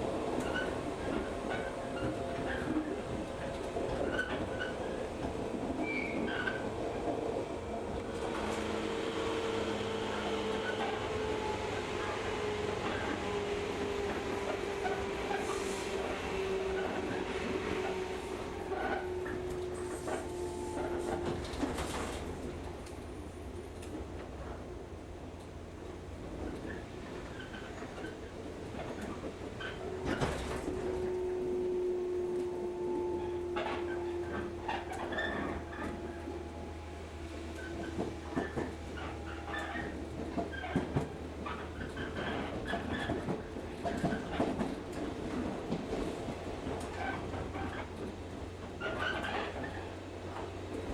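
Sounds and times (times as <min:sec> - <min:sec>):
train wheels rumbling: 0:00.0 - 0:50.9
train whine: 0:00.0 - 0:50.9.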